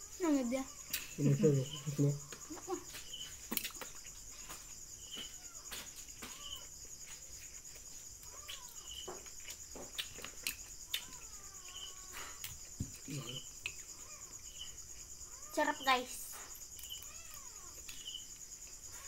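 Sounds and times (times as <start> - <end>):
insects trilling: 0.0 - 19.0
short insect chirp: 0.0 - 19.0.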